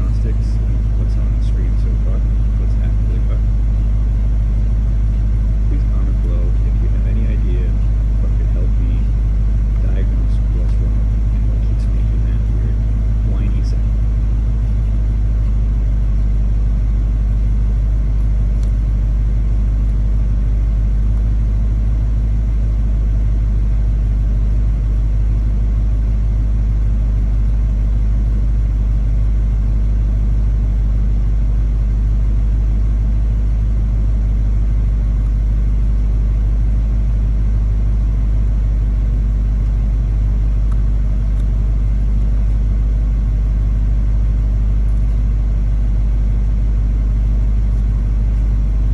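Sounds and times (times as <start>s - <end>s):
car engine low rumble: 0.0s - 48.9s.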